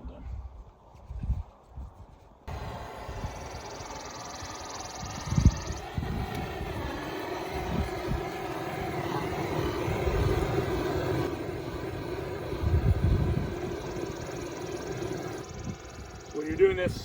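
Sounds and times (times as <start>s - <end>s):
torch flame burning: 2.4s - 17.0s.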